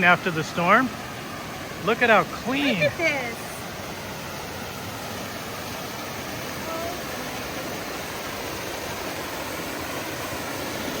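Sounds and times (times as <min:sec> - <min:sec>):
creek water rushing over rocks: 0:00.0 - 0:11.0.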